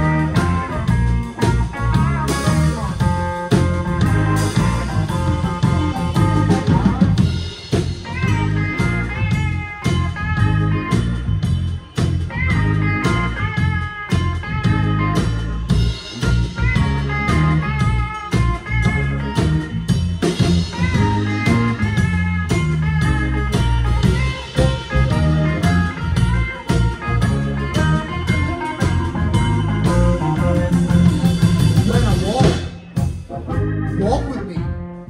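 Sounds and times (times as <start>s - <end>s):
blues band playing: 0.0s - 35.0s.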